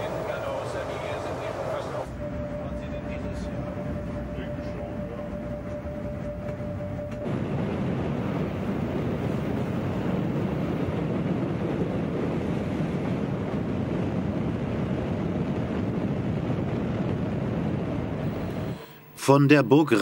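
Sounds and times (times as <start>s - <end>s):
train wheels rolling on rail: 0.0s - 18.8s
wind noise on microphone: 0.0s - 18.8s.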